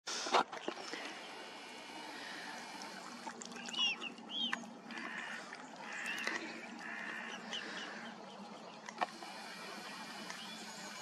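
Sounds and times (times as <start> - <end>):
waterbirds calling: 0.1 - 11.0.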